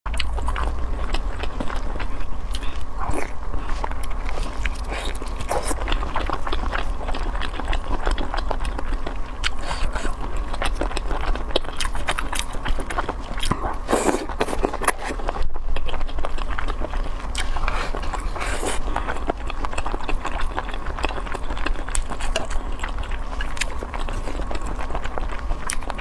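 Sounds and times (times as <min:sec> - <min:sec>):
low hum: 0:00.1 - 0:26.0
person biting and chewing food: 0:00.1 - 0:26.0.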